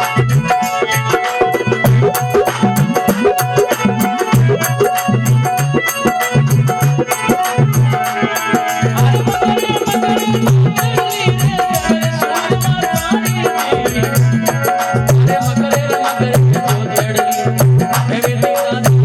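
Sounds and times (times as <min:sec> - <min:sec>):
sustained instrumental melody: 0:00.0 - 0:18.8
steady drum rhythm: 0:00.0 - 0:19.0.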